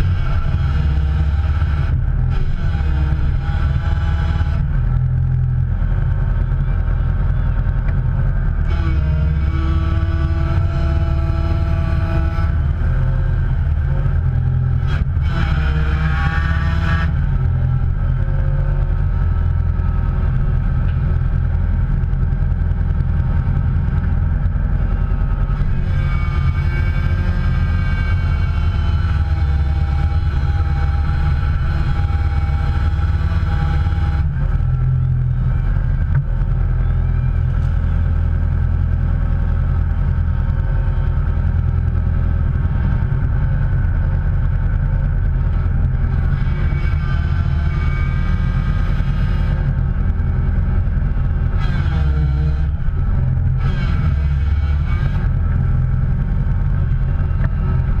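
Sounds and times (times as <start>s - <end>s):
motor vehicle running: 0.0s - 58.0s.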